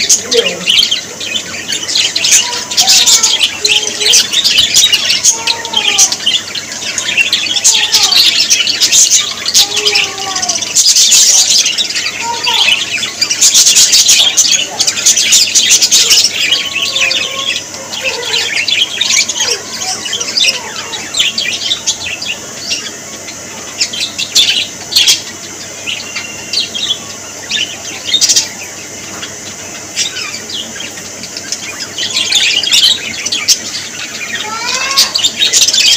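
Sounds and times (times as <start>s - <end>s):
budgerigars chirping: 0.0s - 35.9s.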